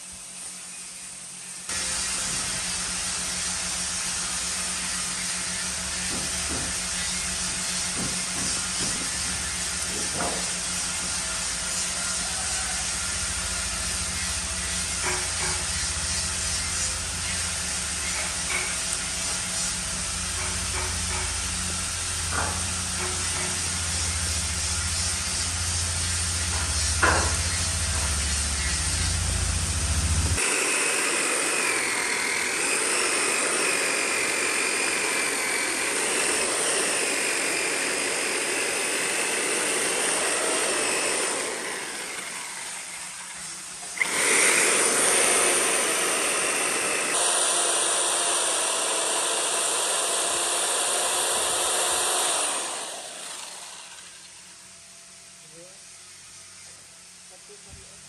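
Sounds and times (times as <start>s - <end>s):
machine wavering high-pitched whine: 0.0s - 49.5s
power tool motor hum: 1.6s - 54.7s.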